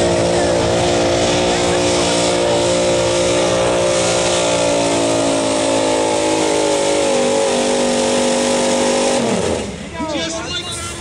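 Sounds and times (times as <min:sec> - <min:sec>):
truck engine at full throttle: 0:00.0 - 0:11.0.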